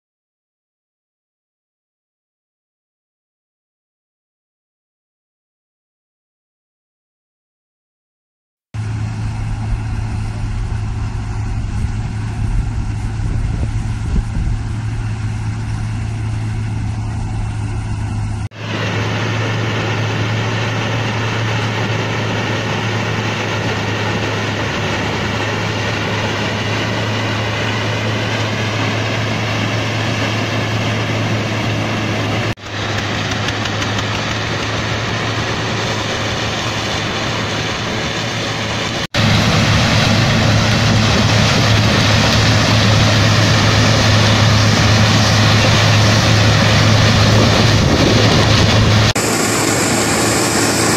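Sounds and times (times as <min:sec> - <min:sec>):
harvester chopping corn stalks: 0:08.8 - 0:50.9
tractor engine hum: 0:08.8 - 0:50.9.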